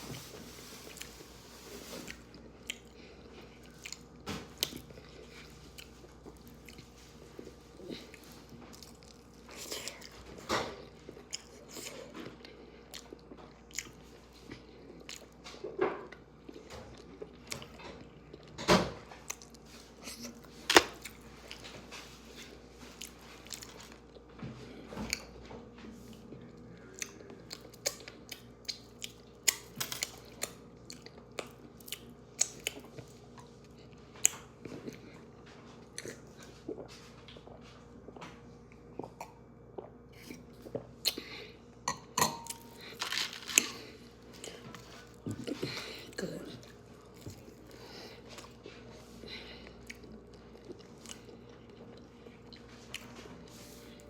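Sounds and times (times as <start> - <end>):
person chewing crunchy food: 0.0 - 18.6, 19.2 - 25.3, 26.9 - 38.2, 38.8 - 54.0.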